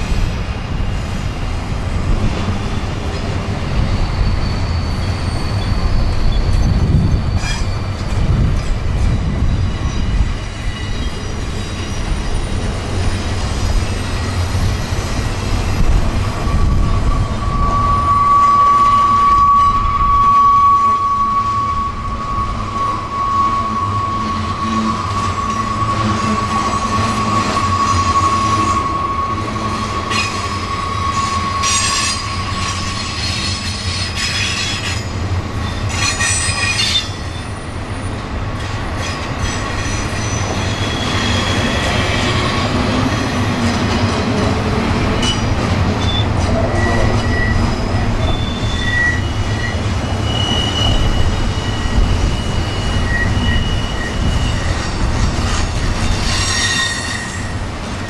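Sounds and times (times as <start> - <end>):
train rumbling past: 0.0 - 58.0
train wheels squealing: 0.0 - 58.0.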